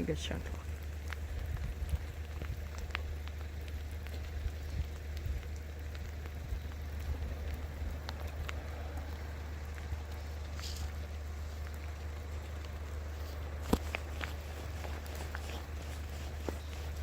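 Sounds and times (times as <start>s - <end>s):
light rain pattering: 0.0s - 17.0s.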